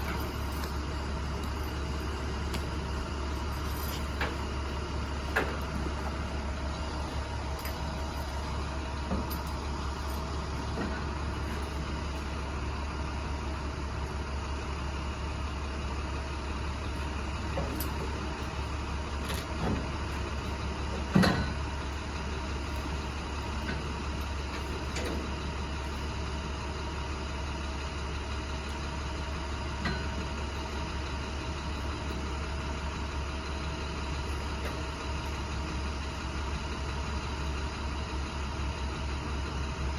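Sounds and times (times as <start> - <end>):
truck engine droning: 0.0 - 39.9.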